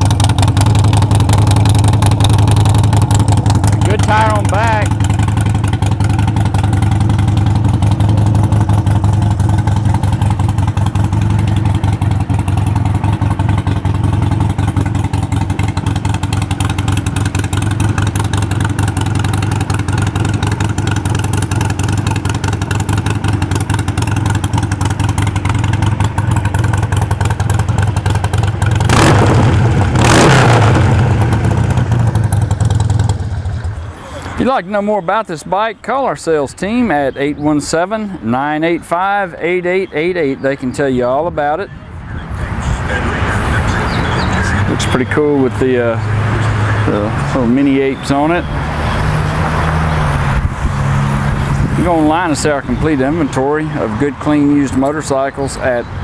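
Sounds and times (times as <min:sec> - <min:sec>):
motorcycle engine revving: 0:00.0 - 0:34.6, 0:39.4 - 0:56.0
motorcycle engine idling: 0:00.0 - 0:56.0.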